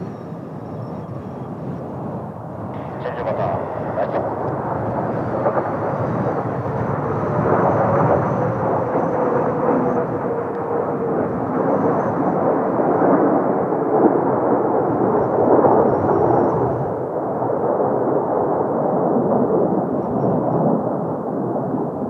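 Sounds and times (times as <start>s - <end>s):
faint jet whine: 0.0s - 21.2s
jet engines roaring: 0.0s - 22.0s.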